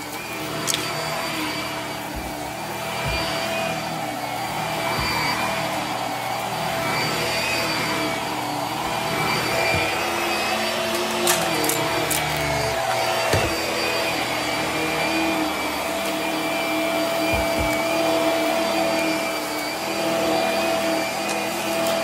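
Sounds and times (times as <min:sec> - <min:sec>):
upright vacuum cleaner running: 0:00.0 - 0:22.0.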